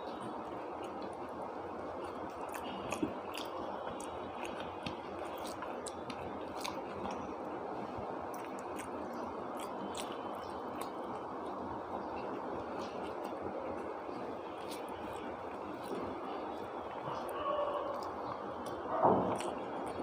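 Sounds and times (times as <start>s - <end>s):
person chewing food: 0.0s - 20.0s
wet squishy mouth sounds: 1.9s - 7.4s, 8.2s - 20.0s.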